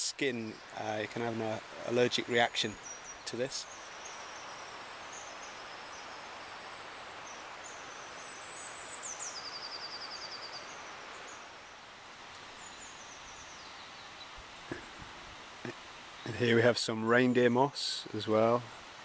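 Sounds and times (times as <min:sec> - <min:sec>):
songbird singing: 0:00.0 - 0:19.0
steady background hiss: 0:00.0 - 0:19.0.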